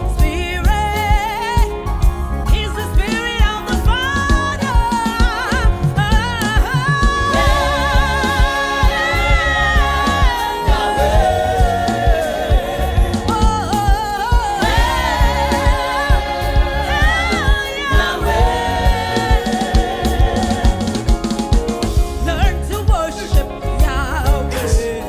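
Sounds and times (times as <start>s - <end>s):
group singing gospel melody: 0.0s - 25.0s
steady drum beat: 0.0s - 25.0s.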